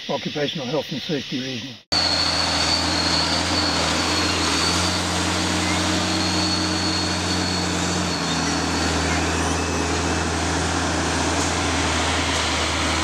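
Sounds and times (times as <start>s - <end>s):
engine hum with droning tones: 2.0s - 13.0s.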